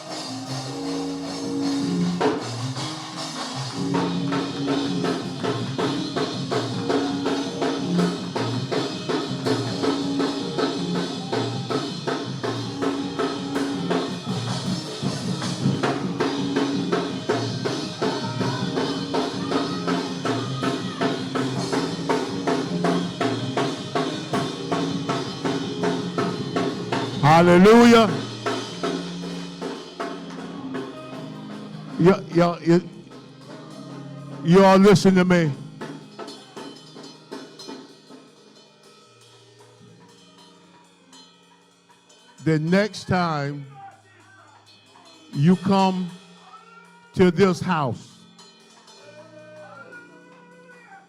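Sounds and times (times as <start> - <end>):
band playing upbeat music: 0.0 - 38.1, 42.4 - 43.8, 45.2 - 51.0
drum kit beat: 0.0 - 38.8, 42.4 - 43.8, 45.1 - 50.2.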